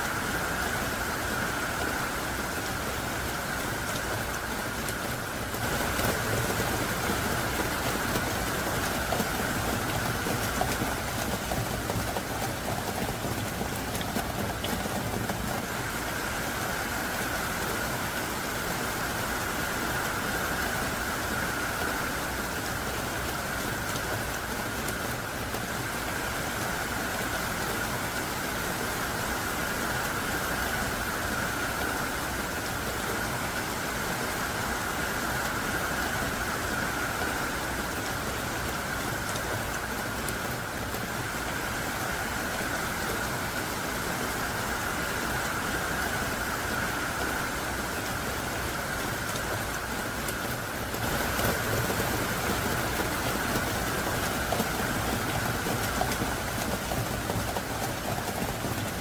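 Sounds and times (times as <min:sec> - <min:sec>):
heavy pouring rain: 0:00.0 - 0:59.0.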